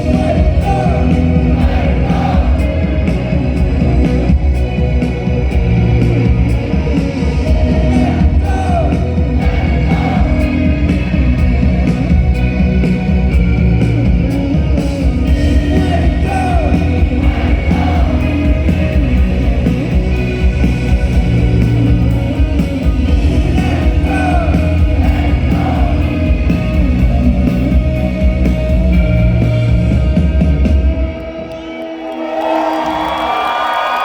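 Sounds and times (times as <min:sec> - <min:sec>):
live rock band playing: 0:00.0 - 0:31.8.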